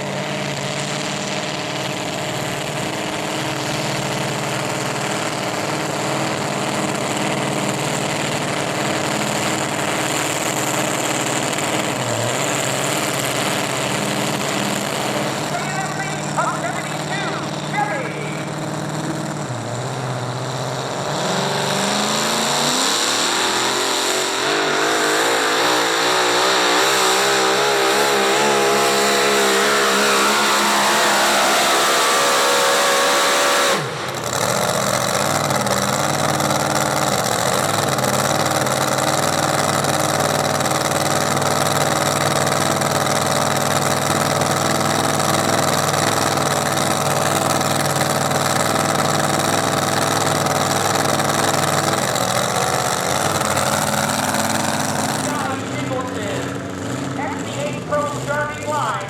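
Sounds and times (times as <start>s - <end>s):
engine under heavy load: 0.0s - 59.0s.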